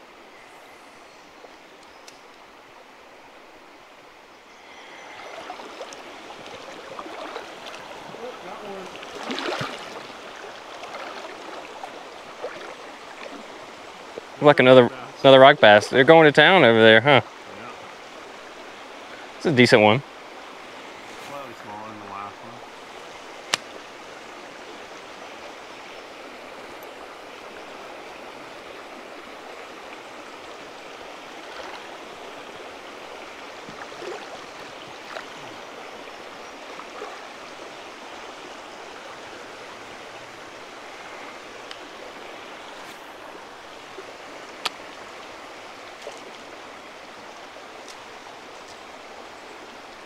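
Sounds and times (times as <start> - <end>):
river rushing over rocks: 2.4 - 50.0.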